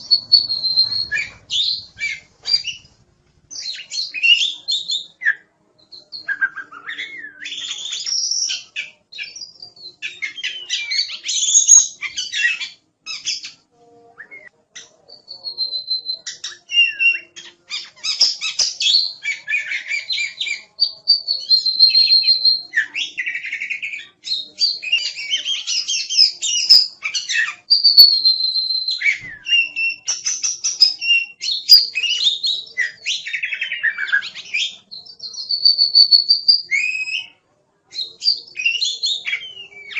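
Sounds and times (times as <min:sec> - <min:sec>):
bird singing: 0:00.0 - 0:13.6, 0:14.2 - 0:37.4, 0:38.0 - 0:39.9.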